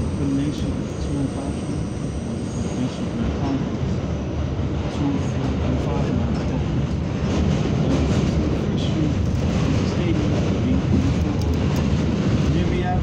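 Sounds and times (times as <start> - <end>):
subway car rumbling on track: 0.0 - 13.0.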